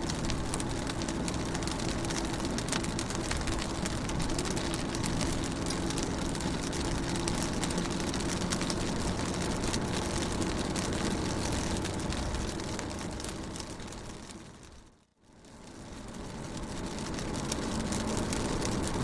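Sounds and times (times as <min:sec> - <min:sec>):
rain hitting car window: 0:00.0 - 0:19.0.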